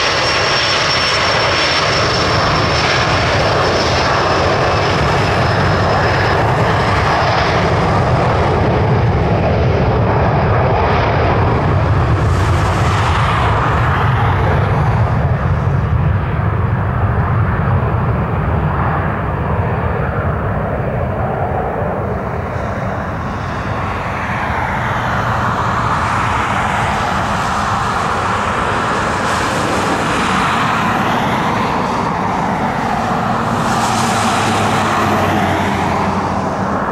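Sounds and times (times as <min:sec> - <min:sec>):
high jet whine: 0:00.0 - 0:36.9
jet engine rumble: 0:00.0 - 0:36.9.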